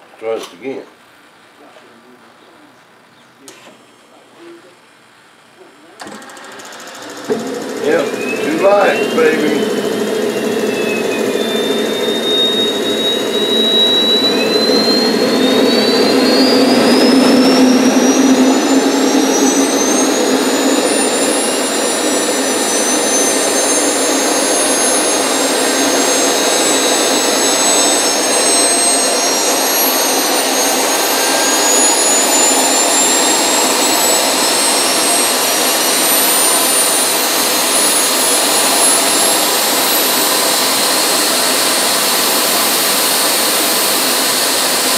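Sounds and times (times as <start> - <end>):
turbine engines whining: 6.0 - 44.9
steady engine roar: 6.2 - 44.9.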